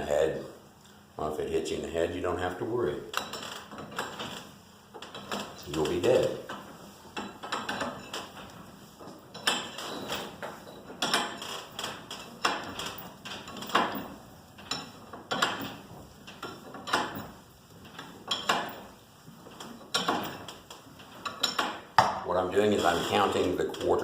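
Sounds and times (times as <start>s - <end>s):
metallic clacks of steel bars: 3.1s - 24.0s.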